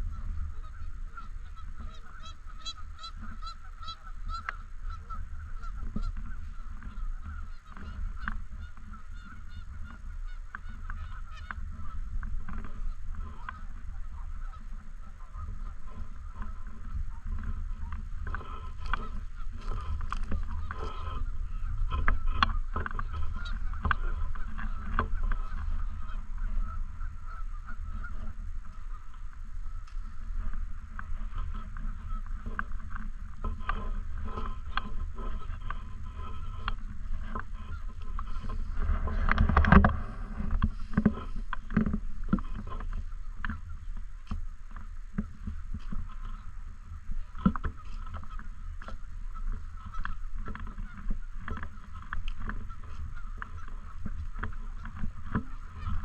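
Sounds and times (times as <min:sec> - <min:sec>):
geese honking: 0:00.0 - 0:56.0
steady low rumble: 0:00.0 - 0:56.0.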